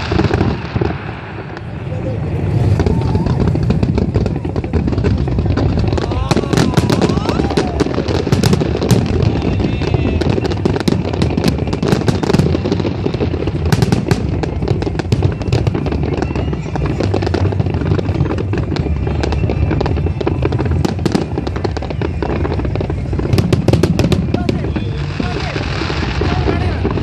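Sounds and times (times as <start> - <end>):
firework bangs and crackles: 0.0 - 27.0
rumble of firework booms: 0.0 - 27.0.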